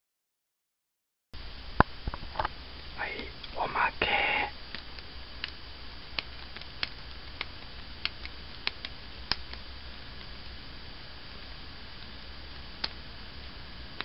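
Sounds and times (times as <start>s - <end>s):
steady low hum: 1.4s - 14.0s.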